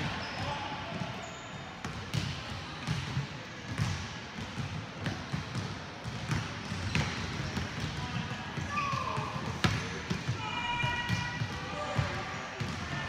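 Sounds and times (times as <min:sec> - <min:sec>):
basketballs bouncing on wooden floor: 0:01.8 - 0:12.9.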